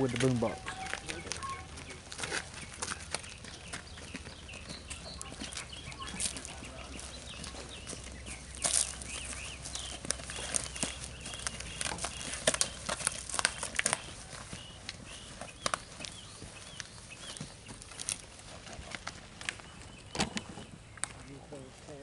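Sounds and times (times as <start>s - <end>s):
footsteps on concrete: 0.0s - 21.3s
birds chirping: 0.0s - 22.0s.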